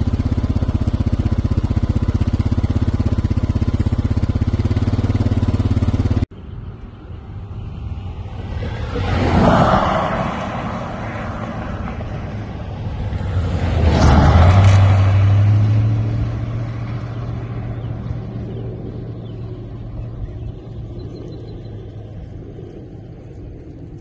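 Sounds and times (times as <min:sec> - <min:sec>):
pickup truck engine hum: 0:00.0 - 0:24.0
vehicles passing on road: 0:00.0 - 0:24.0.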